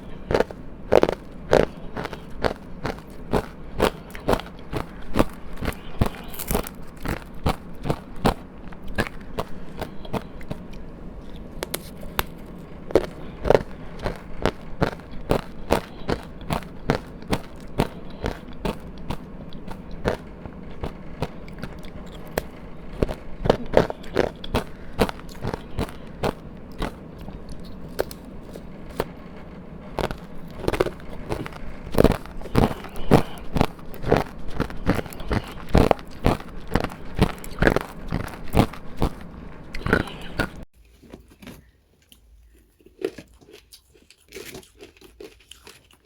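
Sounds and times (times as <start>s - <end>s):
crunchy ice chewing: 0.0s - 46.0s.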